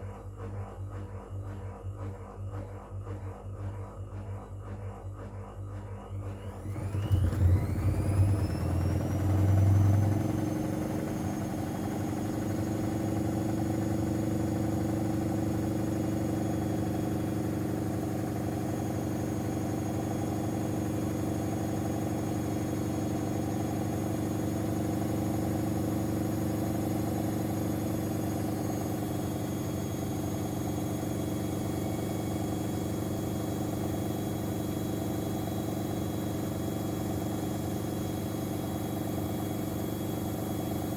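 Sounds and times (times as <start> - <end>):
washing machine motor whine: 0.0 - 40.9
washing machine spin hum: 0.0 - 40.9.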